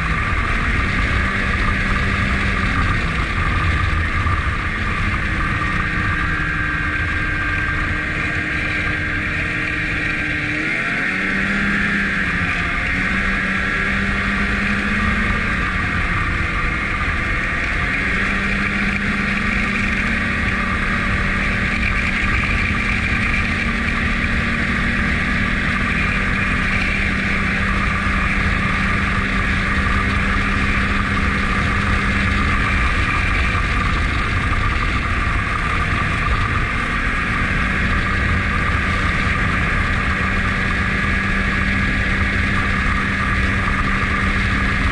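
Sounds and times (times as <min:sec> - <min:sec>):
snowmobile engine and track running: 0:00.0 - 0:44.9.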